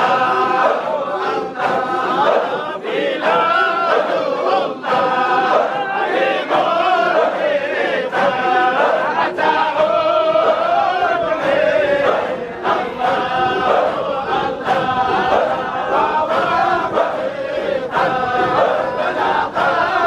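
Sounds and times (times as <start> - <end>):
crowd of men chanting: 0.0 - 20.0.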